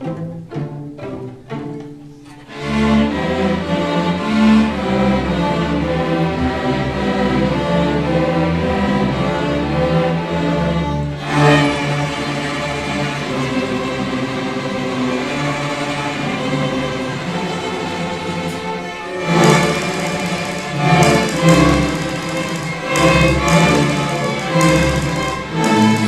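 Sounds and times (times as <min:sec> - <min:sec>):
string orchestra playing: 0:00.0 - 0:26.0.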